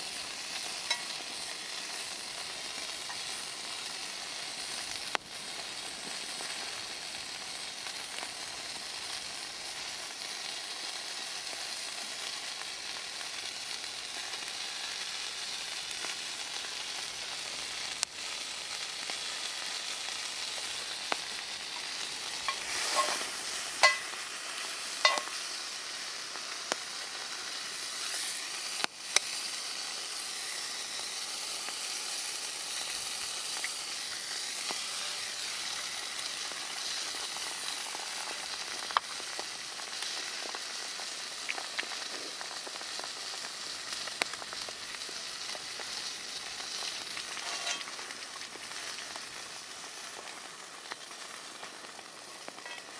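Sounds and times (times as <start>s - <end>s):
food sizzling in a frying pan: 0.0s - 52.9s.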